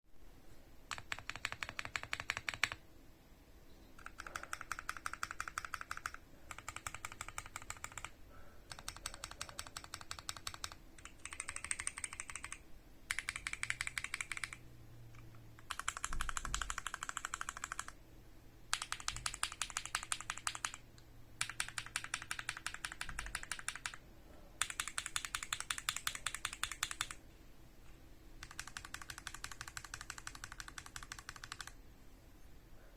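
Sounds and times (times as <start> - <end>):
mechanical keyboard typing: 0.9 - 2.8, 4.0 - 18.0, 18.7 - 24.0, 24.6 - 27.2, 28.4 - 31.8.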